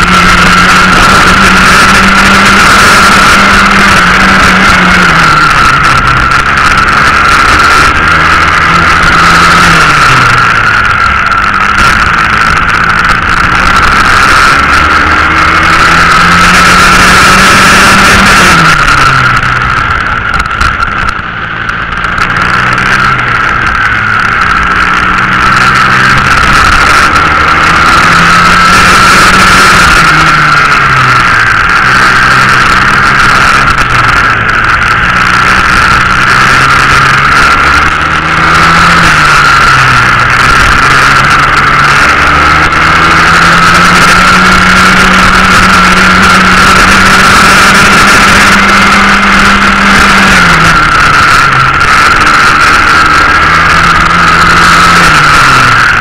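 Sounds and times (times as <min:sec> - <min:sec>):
kart engine at racing revs: 0:00.0 - 0:56.0.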